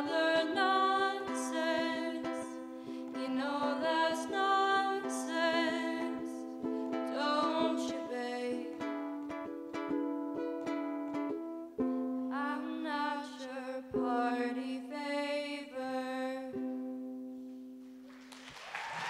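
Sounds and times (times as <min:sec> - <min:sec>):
ukulele plucked and strummed: 0:00.0 - 0:18.2.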